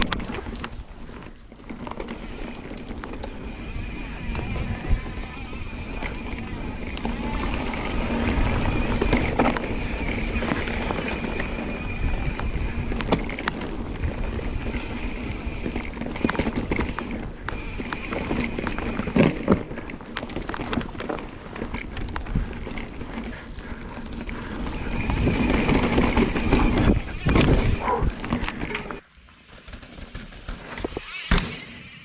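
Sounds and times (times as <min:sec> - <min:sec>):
bike rattling and knocking: 0:00.0 - 0:31.6
wind and tyre noise: 0:00.0 - 0:32.0.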